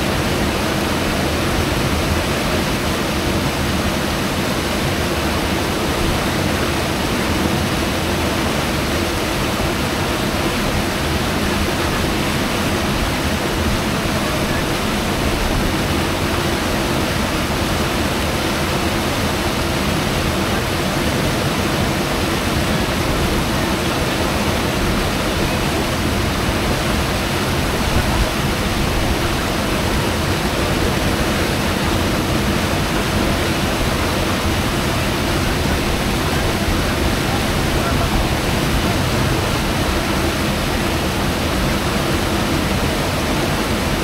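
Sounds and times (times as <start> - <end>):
river rushing over rocks: 0.0 - 44.0.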